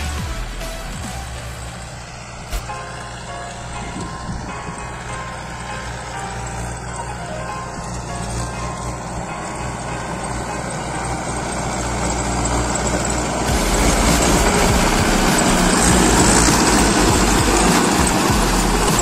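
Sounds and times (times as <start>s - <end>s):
rushing noise: 0.0s - 19.0s
tractor diesel engine running: 0.0s - 19.0s.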